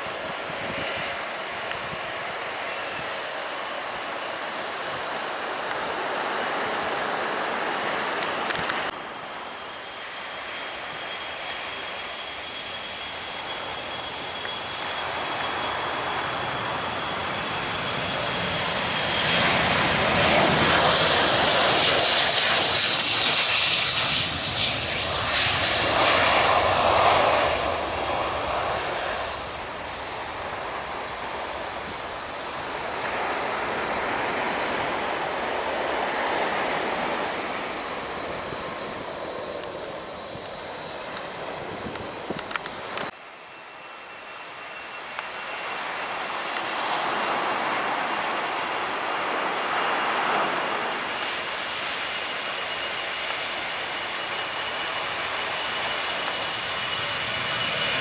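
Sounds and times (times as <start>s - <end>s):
aircraft engine whine: 0.0s - 58.0s.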